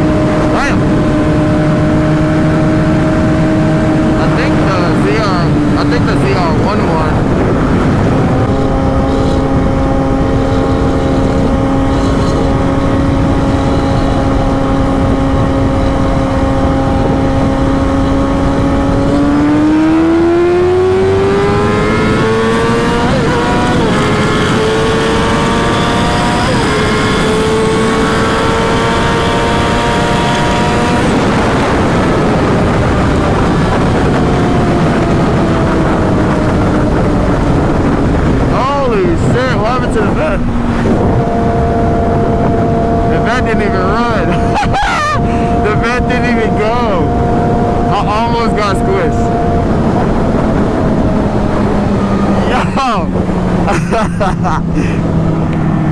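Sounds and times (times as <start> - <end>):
motorcycle engine revving: 0.0 - 55.9
wind noise: 0.0 - 55.9.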